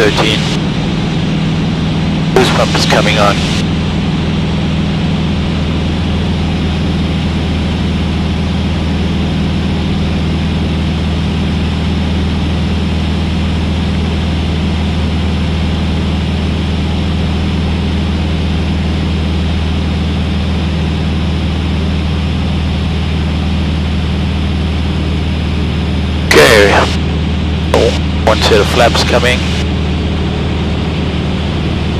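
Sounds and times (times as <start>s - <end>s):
propeller plane engine droning: 0.0s - 31.9s.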